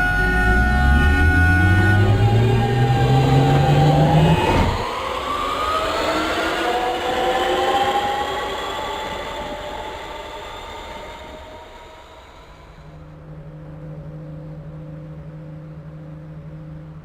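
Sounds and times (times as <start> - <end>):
train motors whining: 0.0 - 13.9
low hum: 0.0 - 17.0.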